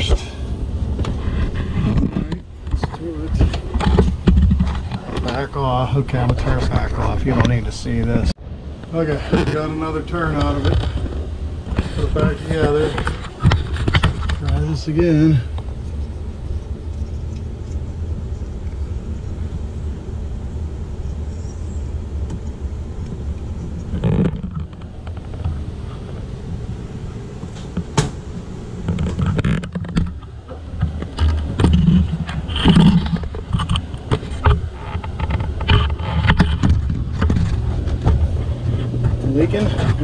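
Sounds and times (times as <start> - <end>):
low rumble: 0.0 - 40.0.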